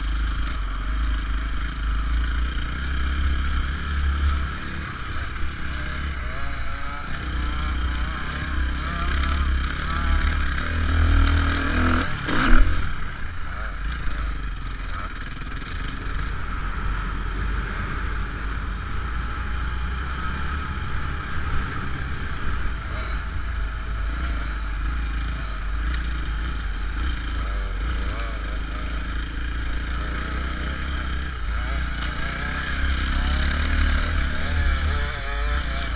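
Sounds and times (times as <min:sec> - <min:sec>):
motorbike engine running: 0:00.0 - 0:35.9.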